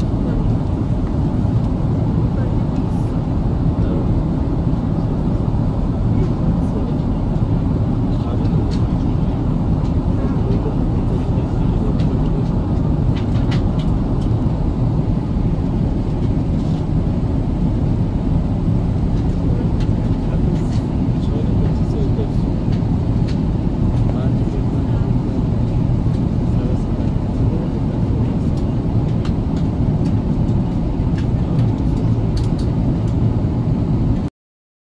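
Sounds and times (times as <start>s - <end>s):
airplane cabin rumble: 0.0s - 34.3s.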